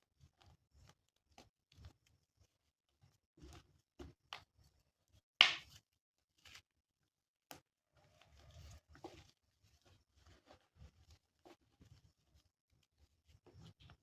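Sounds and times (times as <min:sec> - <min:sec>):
clay cracking: 0:00.1 - 0:14.0.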